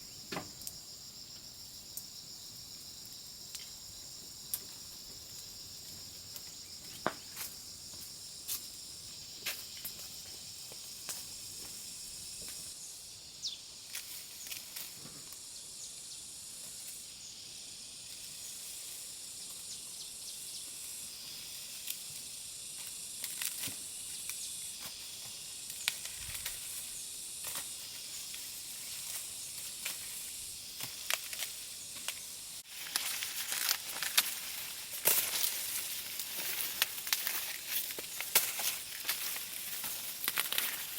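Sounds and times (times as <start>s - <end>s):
high-pitched outdoor hiss: 0.0s - 40.9s.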